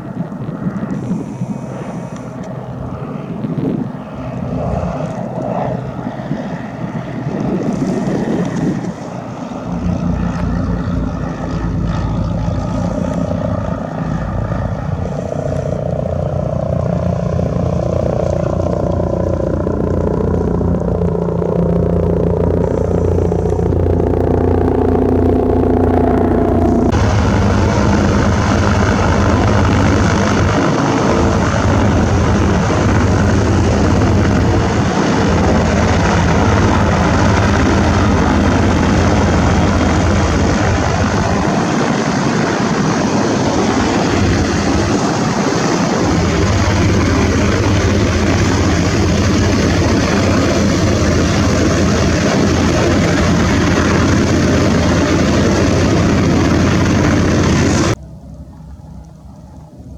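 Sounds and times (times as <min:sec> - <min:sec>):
aircraft engine droning: 0:00.0 - 0:59.9.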